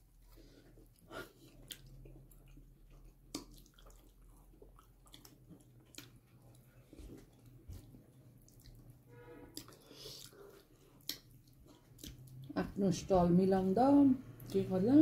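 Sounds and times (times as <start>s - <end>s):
person chewing food: 0.0s - 12.6s.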